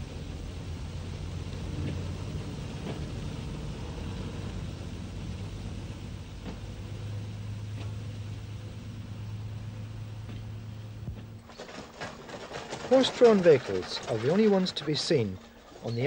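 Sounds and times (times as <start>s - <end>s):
diesel railcar engine drone: 0.0s - 16.0s.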